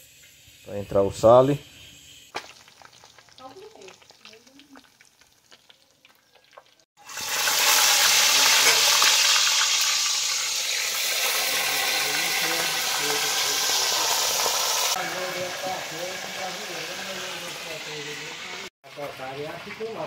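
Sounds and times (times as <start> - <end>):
fish frying in hot oil: 1.7 - 20.0.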